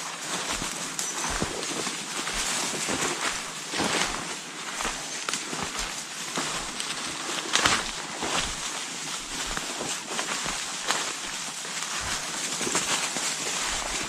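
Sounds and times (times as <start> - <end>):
rustling and crunching in dry leaves: 0.0 - 14.0.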